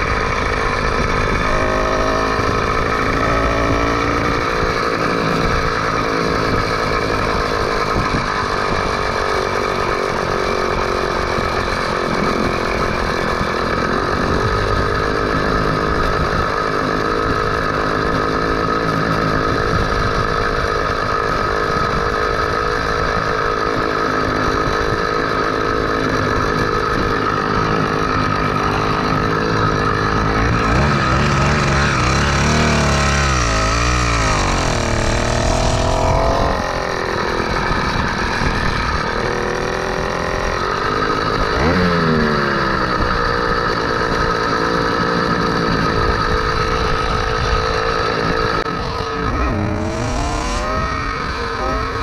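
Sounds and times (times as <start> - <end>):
two-stroke engine buzzing: 0.0 - 52.0.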